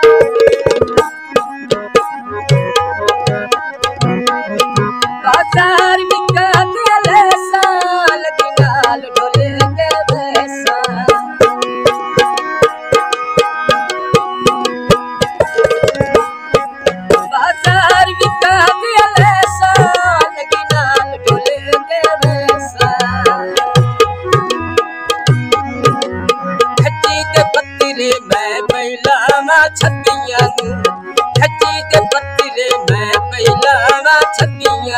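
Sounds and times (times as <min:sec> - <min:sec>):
harmonium chords and melody: 0:00.0 - 0:34.9
tabla strokes: 0:00.0 - 0:34.9.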